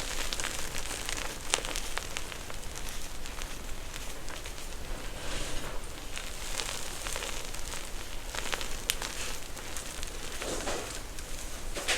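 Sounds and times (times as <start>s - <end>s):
slime crackling and popping: 0.0s - 11.9s.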